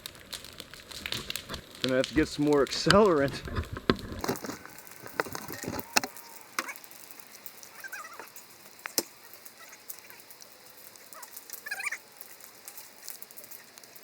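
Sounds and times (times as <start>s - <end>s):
burning wood popping: 0.0s - 14.0s
fire crackling: 0.0s - 14.0s
low fire hiss: 0.0s - 14.0s.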